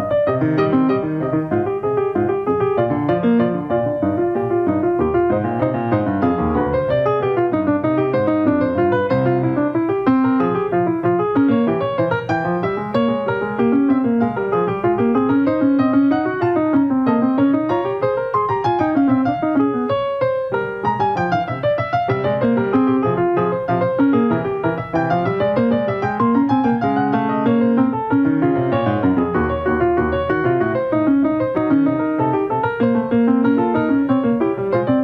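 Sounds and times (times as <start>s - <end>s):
piano music running notes: 0.0s - 35.0s.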